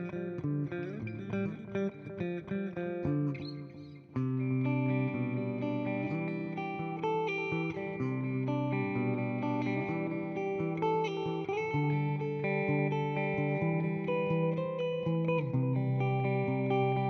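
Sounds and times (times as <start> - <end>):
electric guitar with delay: 0.0 - 17.0.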